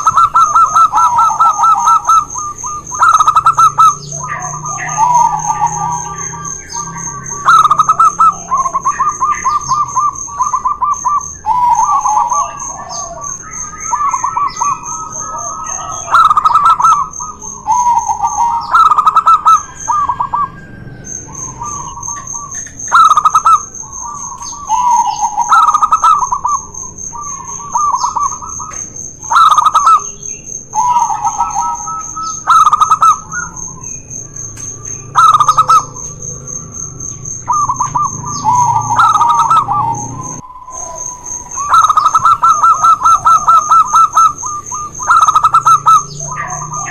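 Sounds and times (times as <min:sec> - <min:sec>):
doves cooing in trills: 0:00.0 - 0:46.9.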